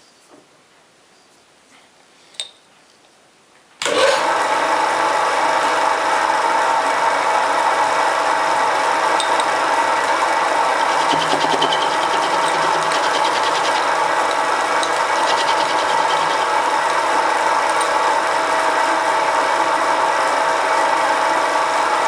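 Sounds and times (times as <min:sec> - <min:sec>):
electric motor humming: 0:03.8 - 0:22.0.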